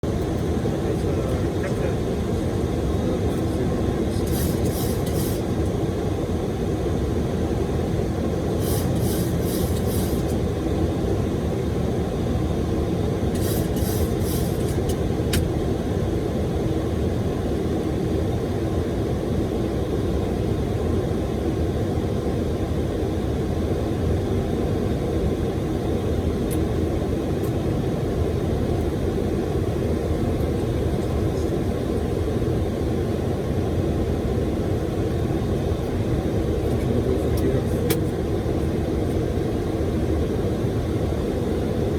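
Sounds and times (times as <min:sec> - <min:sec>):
airflow and engine noise: 0:00.0 - 0:41.9.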